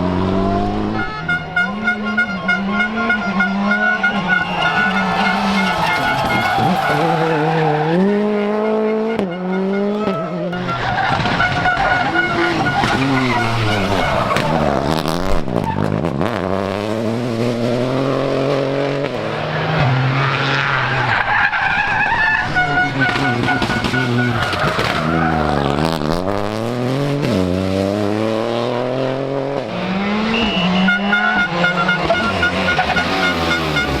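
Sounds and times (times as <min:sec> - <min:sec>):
rally car engine revving: 0:00.0 - 0:34.0
tyres skidding: 0:00.0 - 0:34.0.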